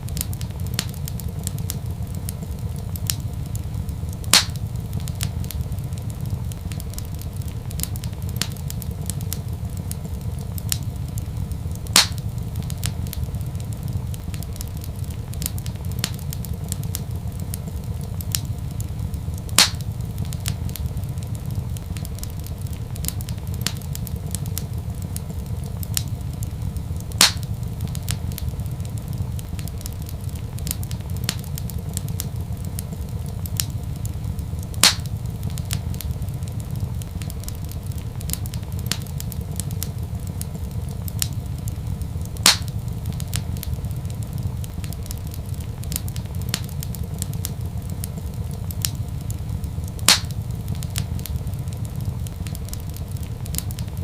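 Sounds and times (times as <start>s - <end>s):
loud fire pops: 0.0s - 54.0s
low rumble of fire: 0.0s - 54.0s
wood fire crackling: 0.0s - 54.0s.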